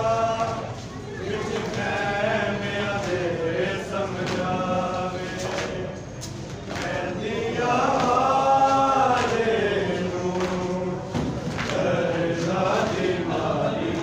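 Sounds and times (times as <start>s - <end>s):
men chanting a lament: 0.0s - 6.0s, 6.7s - 14.0s.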